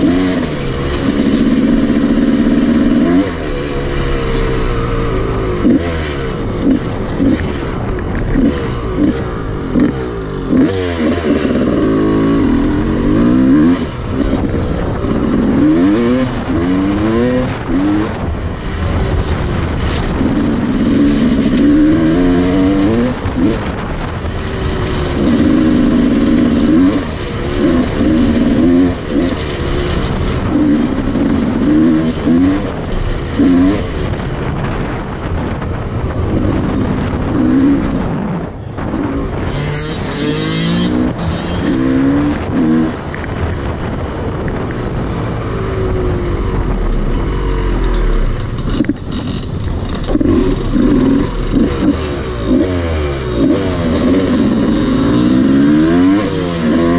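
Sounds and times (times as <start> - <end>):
dirt bike engine revving: 0.0 - 35.6, 36.2 - 43.4, 45.3 - 56.9.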